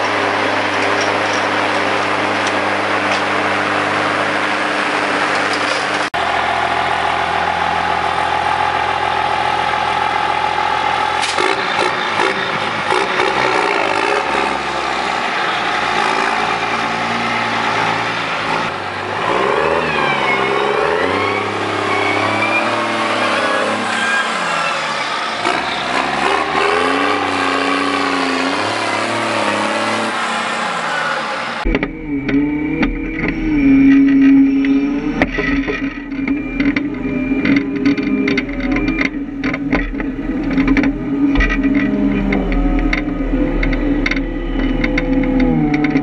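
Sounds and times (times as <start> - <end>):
tractor diesel engine revving: 0.0 - 46.0.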